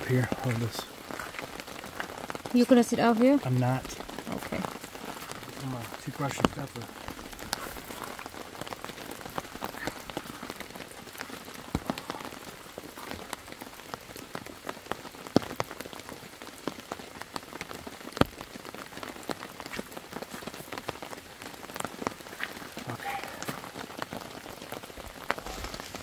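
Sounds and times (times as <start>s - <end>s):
raindrops tapping on an umbrella: 0.0s - 26.0s
steady rain: 0.0s - 26.0s.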